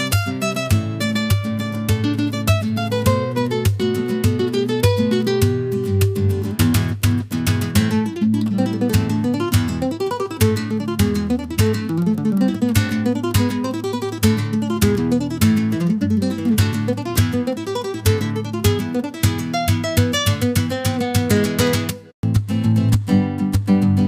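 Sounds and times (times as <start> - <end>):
flamenco-style acoustic guitar: 0.0 - 24.0.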